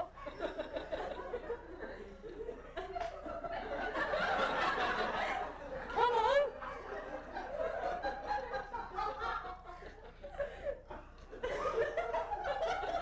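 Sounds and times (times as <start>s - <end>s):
people laughing quietly: 0.0s - 13.0s.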